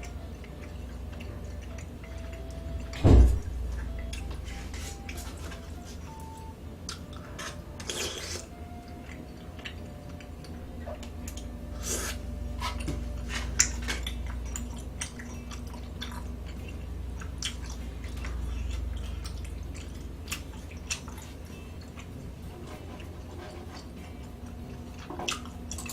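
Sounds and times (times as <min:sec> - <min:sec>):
low steady hum: 0:00.0 - 0:25.9
person chewing food: 0:00.0 - 0:25.9.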